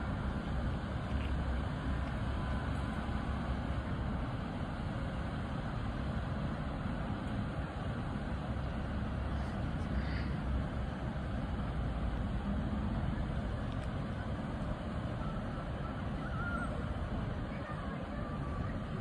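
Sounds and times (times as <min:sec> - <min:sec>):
diesel train engines idling: 0:00.0 - 0:19.0.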